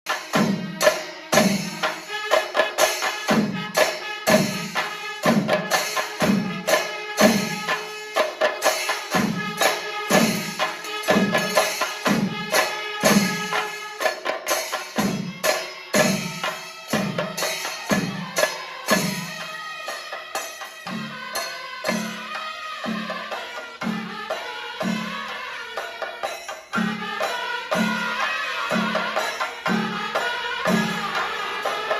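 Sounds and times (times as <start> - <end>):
ringing cymbals: 0.1 - 31.9.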